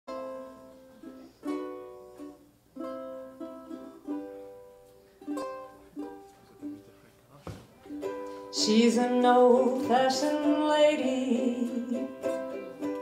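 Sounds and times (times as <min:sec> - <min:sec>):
ukulele chords ringing: 0:00.1 - 0:07.0, 0:07.8 - 0:13.0.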